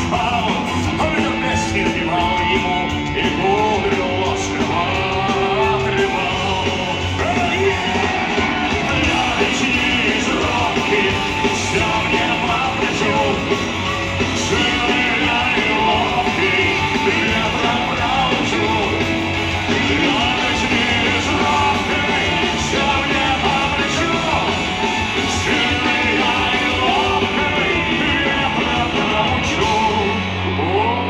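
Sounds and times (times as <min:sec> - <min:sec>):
punk rock band playing: 0:00.0 - 0:31.0.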